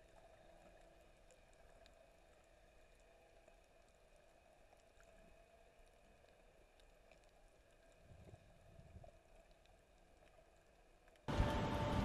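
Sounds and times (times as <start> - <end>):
faint underwater ticks: 0.0 - 11.3.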